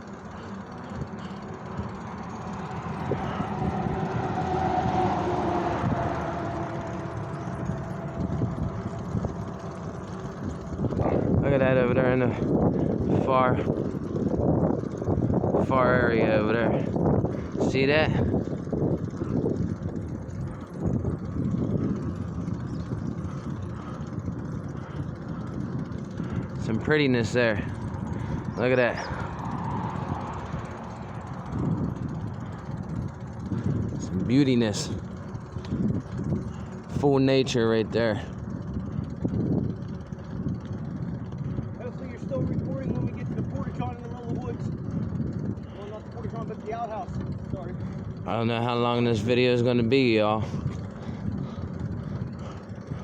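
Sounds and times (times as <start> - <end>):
bicycle tyre and trail noise: 0.0 - 53.0
vehicle passing: 0.0 - 53.0
wind rush: 0.0 - 53.0.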